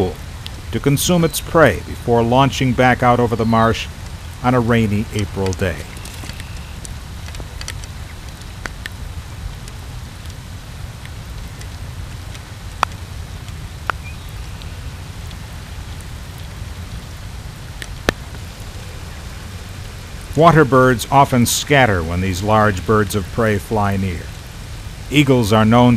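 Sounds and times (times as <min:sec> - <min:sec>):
single raindrops ticking: 0:00.0 - 0:25.9
steady rain: 0:00.0 - 0:25.9.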